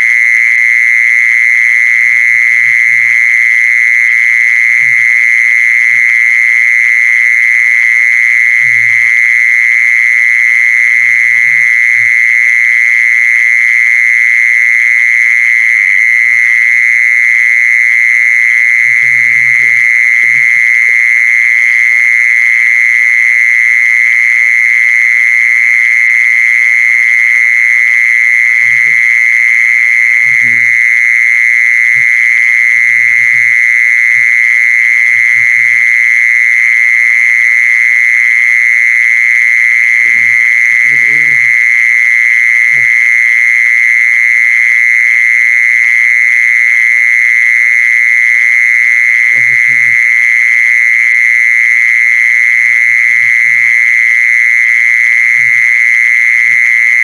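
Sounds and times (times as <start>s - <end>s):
mole cricket trilling: 0.0s - 57.0s.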